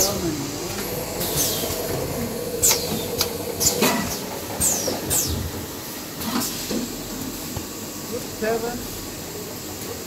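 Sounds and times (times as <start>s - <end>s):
packing machine running: 0.0s - 10.0s.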